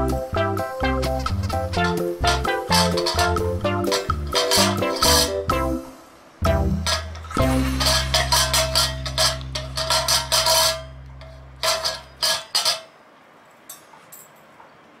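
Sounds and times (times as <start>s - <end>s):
background music chord: 0.0s - 12.1s.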